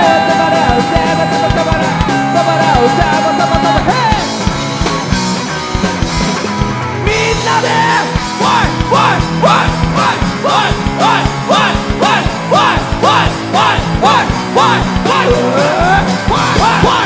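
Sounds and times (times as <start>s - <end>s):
drums: 0.0s - 17.0s
electric bass: 0.0s - 17.0s
electric guitar: 0.0s - 17.0s.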